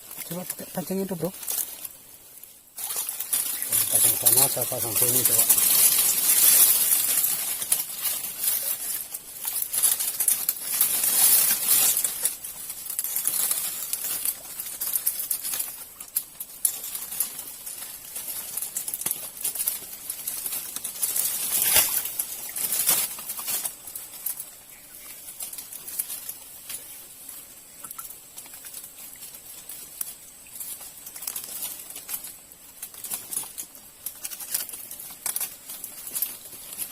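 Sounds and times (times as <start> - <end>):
rustling and crackling of leaves: 0.0 - 36.9.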